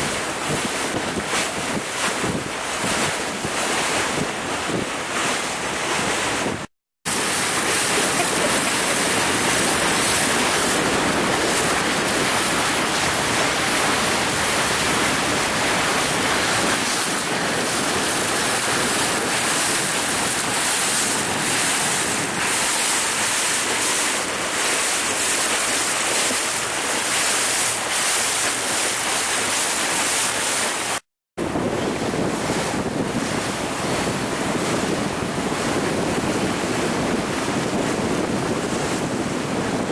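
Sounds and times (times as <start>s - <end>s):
wind buffeting microphone: 0.0s - 27.1s, 31.4s - 39.9s
water rushing past boat hull: 0.0s - 39.9s.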